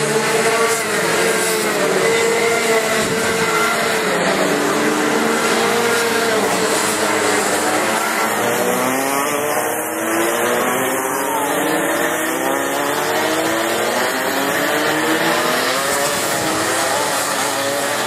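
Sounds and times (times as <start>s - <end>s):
kart engines revving: 0.0s - 18.0s.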